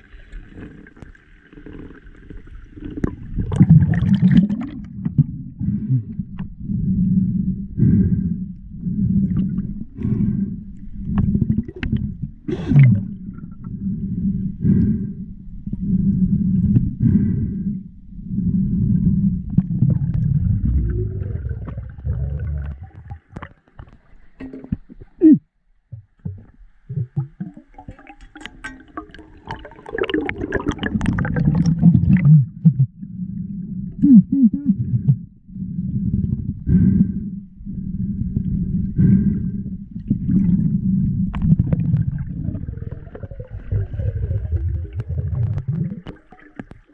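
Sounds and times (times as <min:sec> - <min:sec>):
water sloshing underwater: 0:00.0 - 0:46.9
low rumbles: 0:02.7 - 0:23.4, 0:28.5 - 0:46.9.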